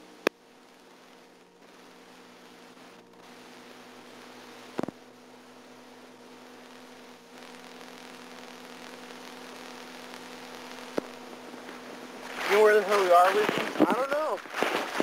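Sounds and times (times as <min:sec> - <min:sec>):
electrical mains hum: 0:00.0 - 0:15.0
low hiss: 0:00.0 - 0:15.0.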